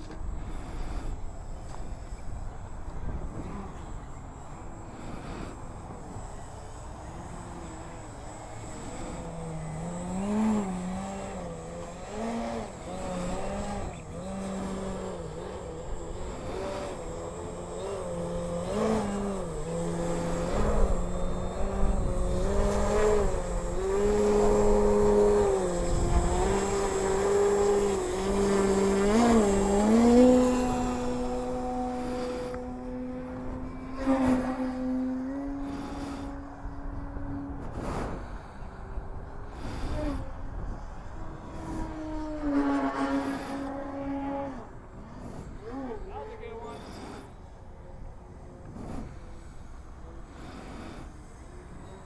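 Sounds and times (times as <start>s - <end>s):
model airplane motor and propeller: 0.0s - 52.0s.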